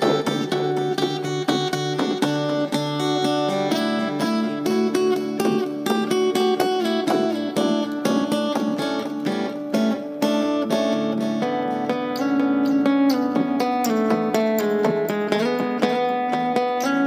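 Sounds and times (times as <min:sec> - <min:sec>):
acoustic guitar with delay: 0:00.0 - 0:17.0.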